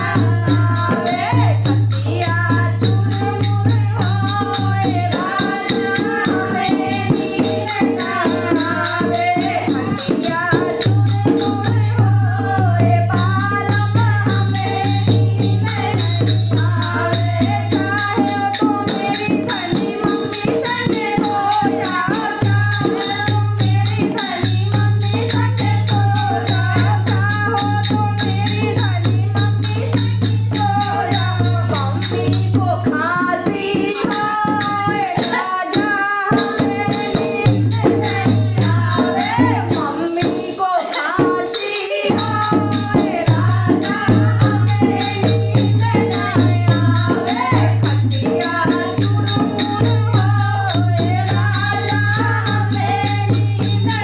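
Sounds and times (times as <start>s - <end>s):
rattling percussion: 0.0s - 54.0s.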